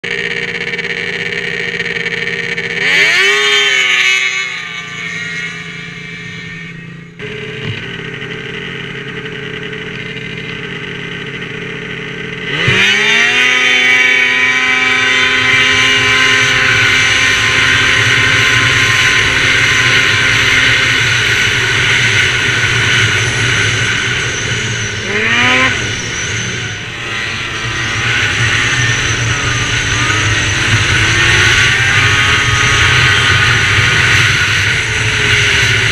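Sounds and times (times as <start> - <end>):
snowmobile engines revving: 0.0 - 35.9.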